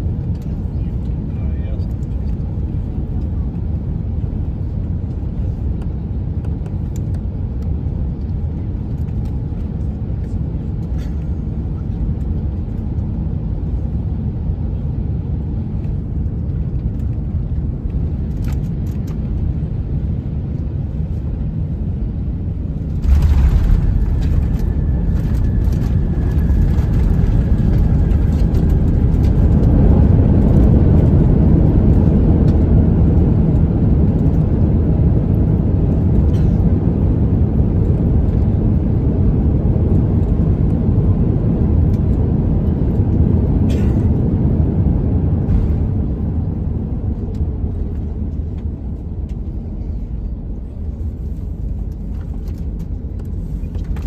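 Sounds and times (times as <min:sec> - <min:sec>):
aircraft cabin rumble: 0:00.0 - 0:54.0.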